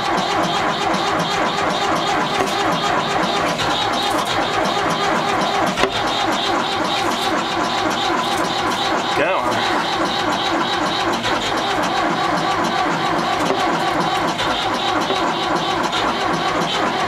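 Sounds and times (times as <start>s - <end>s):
diesel engine cranking: 0.0s - 17.0s.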